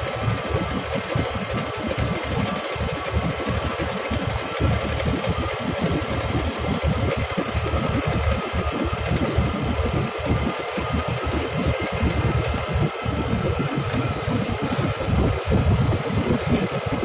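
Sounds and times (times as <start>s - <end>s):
engine running with low rumble: 0.0s - 17.0s.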